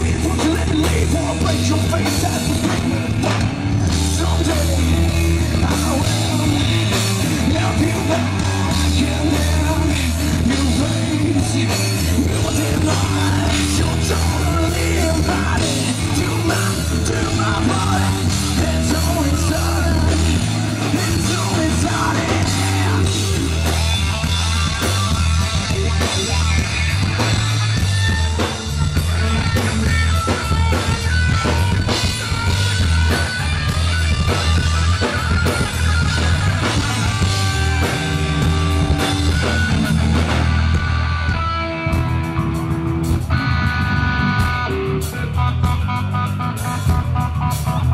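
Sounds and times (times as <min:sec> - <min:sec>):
bass guitar: 0:00.0 - 0:47.9
drums: 0:00.0 - 0:47.9
electric guitar: 0:00.0 - 0:47.9.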